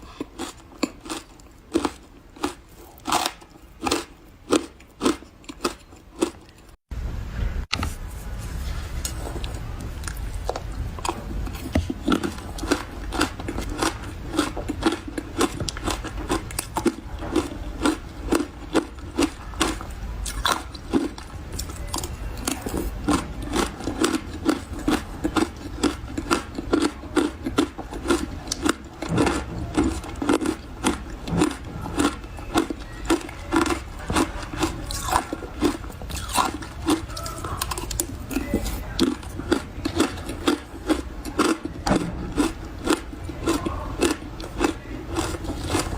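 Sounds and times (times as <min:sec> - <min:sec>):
chewing crunchy ice: 0:00.0 - 0:06.8, 0:09.3 - 0:45.9.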